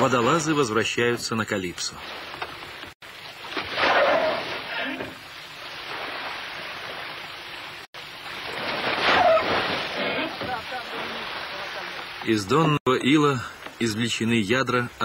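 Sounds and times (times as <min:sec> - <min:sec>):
rushes of water: 0:00.0 - 0:12.8
sea waves splashing against ship: 0:00.0 - 0:12.8.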